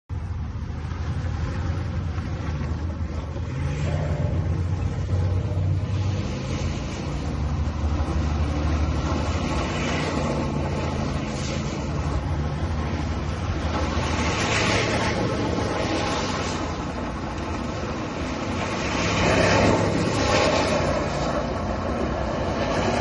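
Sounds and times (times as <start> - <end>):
tyres spinning on wet pavement: 0.1 - 23.0.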